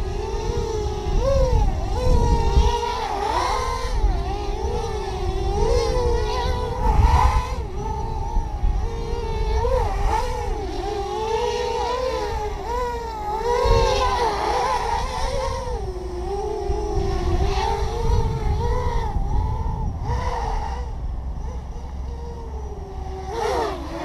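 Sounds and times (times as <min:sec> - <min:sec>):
drone propellers whining: 0:00.0 - 0:24.0
wind rumble on microphone: 0:00.0 - 0:24.0.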